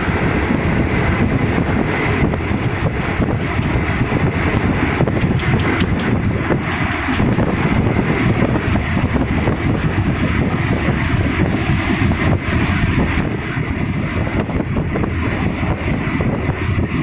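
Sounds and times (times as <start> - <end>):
passenger train rumbling: 0.0 - 17.0
wind buffeting microphone: 0.0 - 17.0.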